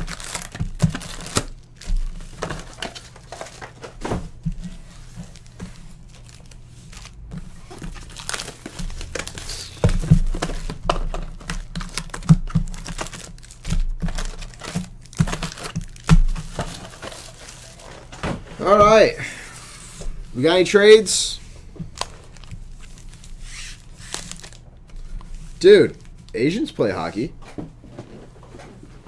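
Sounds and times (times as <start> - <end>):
foil wrappers crinkling: 0.0 - 21.2, 21.8 - 27.2.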